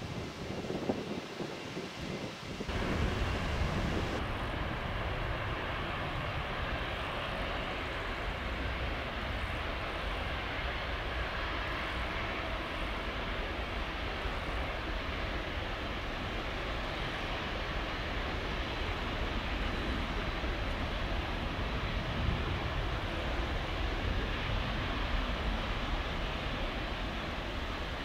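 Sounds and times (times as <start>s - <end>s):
jet engines at taxi power: 0.0s - 28.0s.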